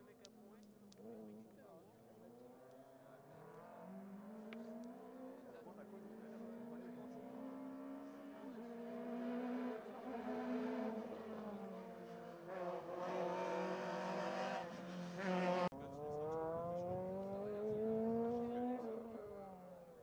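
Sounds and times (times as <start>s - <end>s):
car engine approaching: 0.5s - 20.0s
rally car engine revving: 0.6s - 19.9s.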